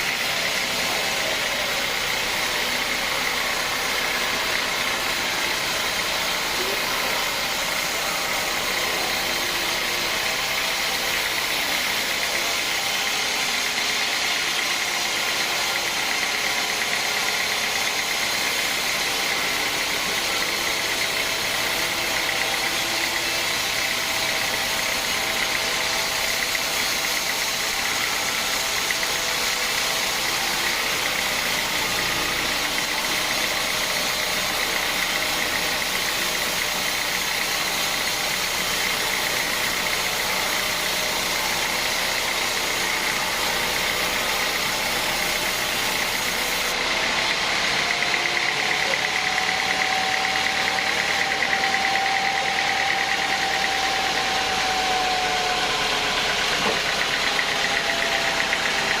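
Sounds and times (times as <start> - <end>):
sawmill machinery whining: 0.0 - 59.0.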